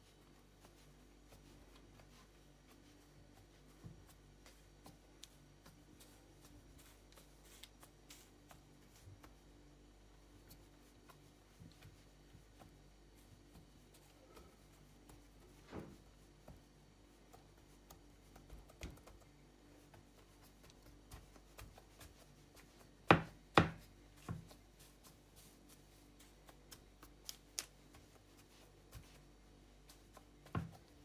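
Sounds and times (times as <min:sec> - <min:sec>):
dough being pressed by hand: 0:00.0 - 0:31.0.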